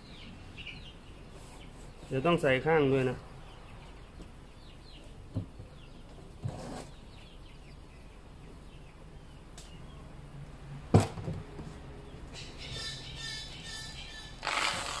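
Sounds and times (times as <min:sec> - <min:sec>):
faint small birds chirping: 0:00.0 - 0:10.2, 0:12.0 - 0:15.0.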